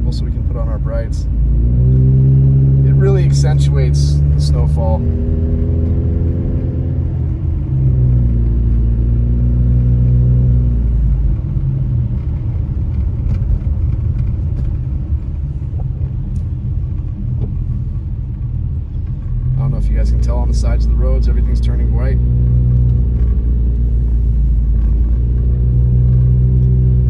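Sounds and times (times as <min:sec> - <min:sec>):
car engine hum: 0:00.0 - 0:27.0
road and tyre rumble: 0:00.0 - 0:27.0.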